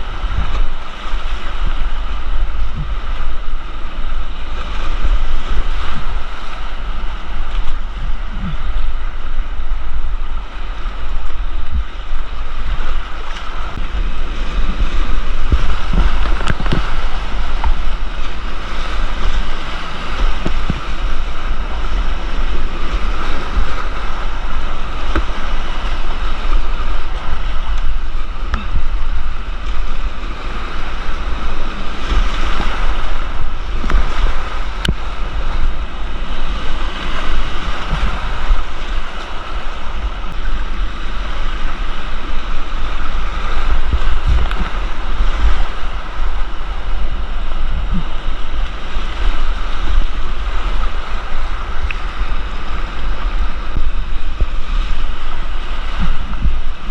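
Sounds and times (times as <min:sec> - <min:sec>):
whitewater creek rushing: 0:00.0 - 0:56.9
wind buffeting microphone: 0:00.0 - 0:56.9.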